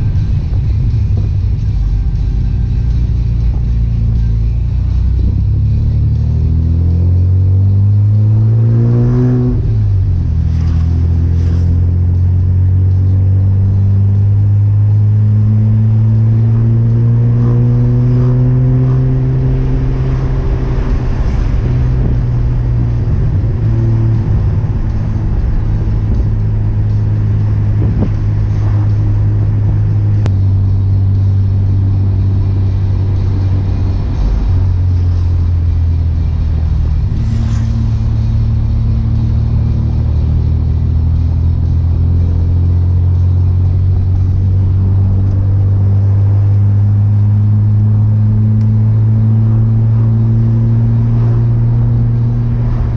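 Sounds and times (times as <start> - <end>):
car engine driving: 0.0 - 52.9.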